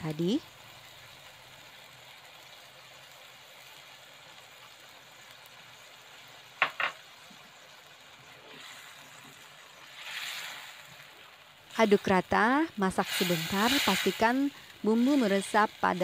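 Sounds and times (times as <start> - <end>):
sauce sizzling in a wok: 0.0 - 16.0.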